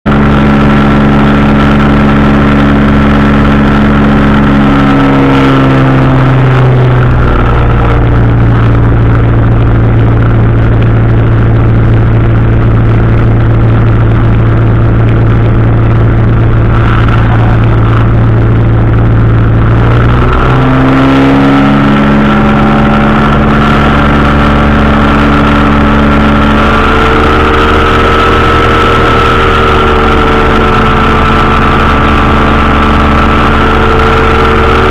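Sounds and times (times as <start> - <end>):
engine and propeller running: 0.0 - 34.9.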